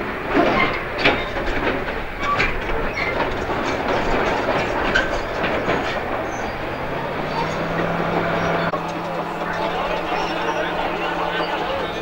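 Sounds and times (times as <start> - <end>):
diesel engine under load: 0.0 - 12.0
steel tracks knocking and clanking: 0.0 - 12.0.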